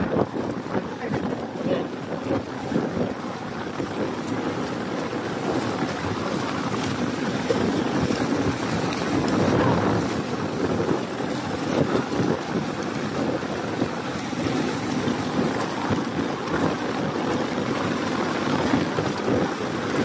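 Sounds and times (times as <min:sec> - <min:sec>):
fish thrashing water splashing: 0:00.0 - 0:20.0
wind buffeting microphone: 0:00.0 - 0:20.0.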